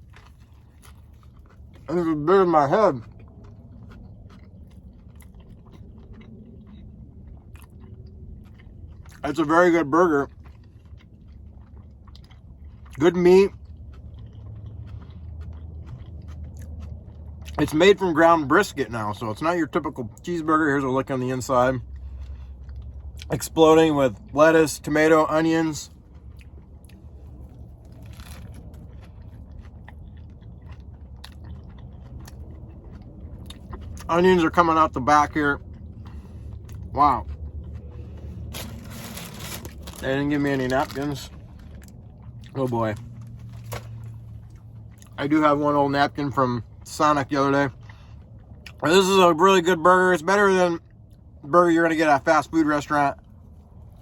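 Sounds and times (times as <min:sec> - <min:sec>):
person chewing: 0:00.0 - 0:49.3
low steady hum: 0:00.0 - 0:54.0.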